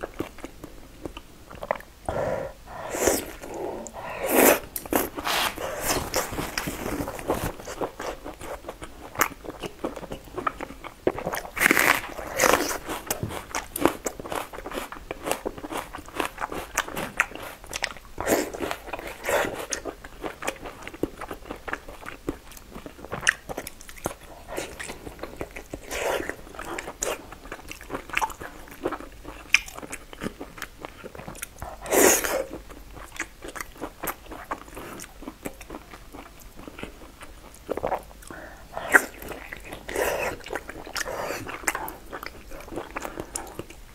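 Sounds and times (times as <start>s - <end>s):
close chewing mouth clicks: 0.0s - 43.9s.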